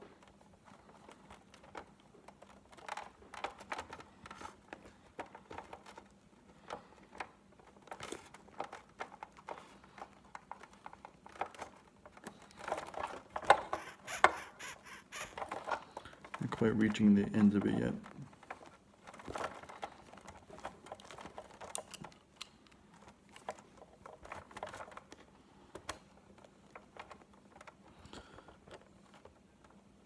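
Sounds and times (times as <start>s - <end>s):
plastic parts clicking: 0.2s - 29.8s.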